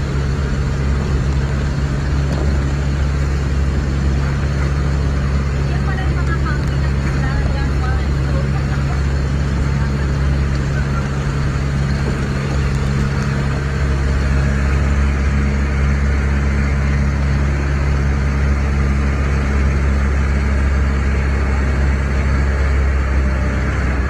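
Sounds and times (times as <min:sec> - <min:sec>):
boat engine droning: 0:00.0 - 0:24.0
water rushing: 0:00.0 - 0:24.0.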